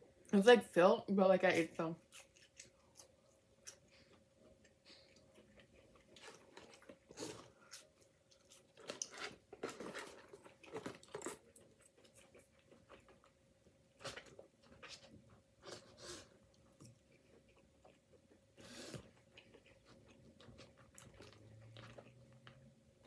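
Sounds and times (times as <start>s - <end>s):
faint steady hum: 0.0s - 23.0s
close-up chewing: 2.0s - 23.0s.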